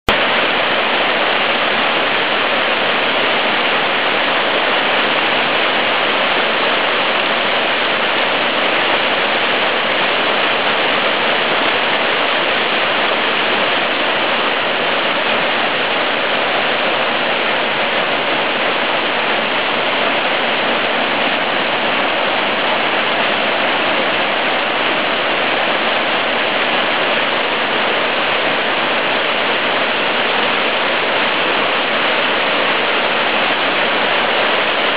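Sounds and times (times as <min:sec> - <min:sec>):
small waterfall rushing: 0:00.1 - 0:34.9.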